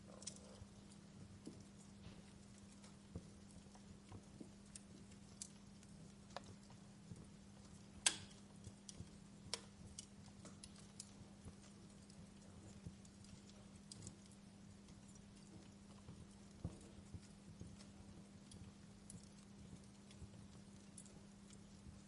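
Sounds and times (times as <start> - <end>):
faint low hum: 0.0 - 22.0
wood fire crackling and popping: 0.0 - 22.0.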